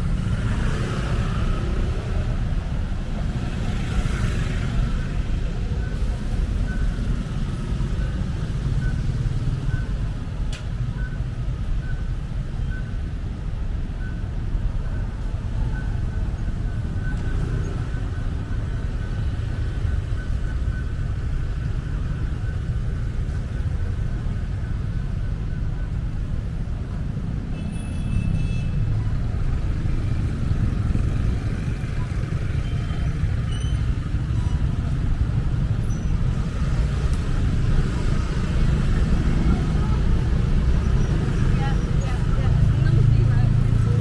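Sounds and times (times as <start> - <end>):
city road traffic rumble: 0.0 - 44.0.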